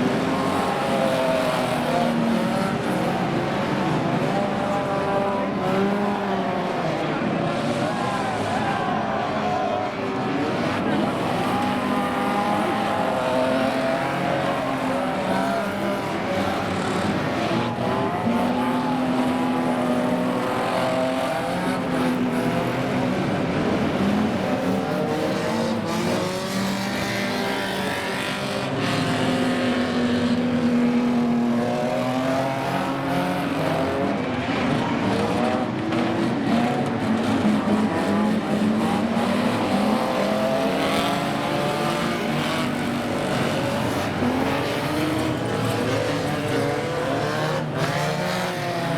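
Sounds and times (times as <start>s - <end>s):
racing car engines revving: 0.0s - 48.9s.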